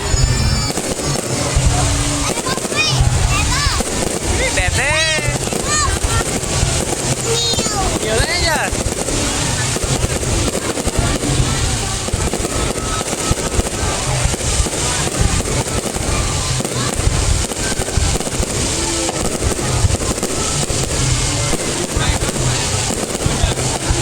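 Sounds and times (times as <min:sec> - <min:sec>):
fireworks crackling bangs: 0:00.0 - 0:24.0
fireworks deep low booms: 0:00.0 - 0:24.0.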